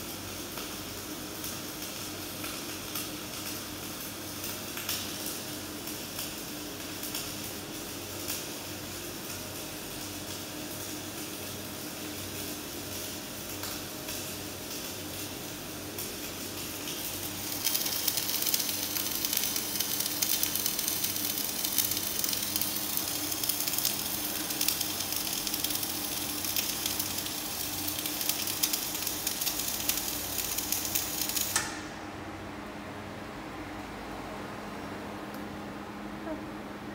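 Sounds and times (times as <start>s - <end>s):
welding arc crackling: 0.0s - 31.8s.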